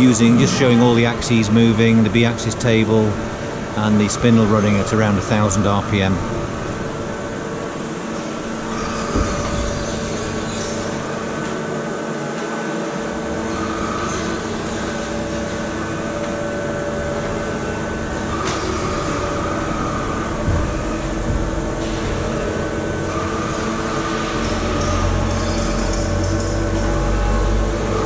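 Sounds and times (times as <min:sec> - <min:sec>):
boring mill running: 0:00.0 - 0:28.0.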